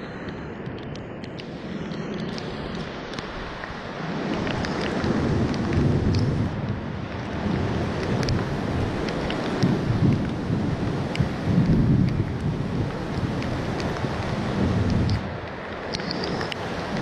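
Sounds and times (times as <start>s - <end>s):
rain: 0.0s - 17.0s
storm wind: 0.0s - 17.0s.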